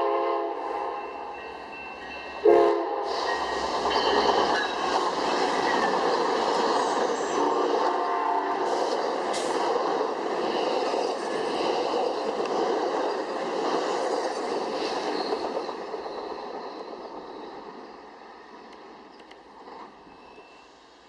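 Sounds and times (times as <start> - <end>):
train wheels rushing on rail: 0.0 - 21.0.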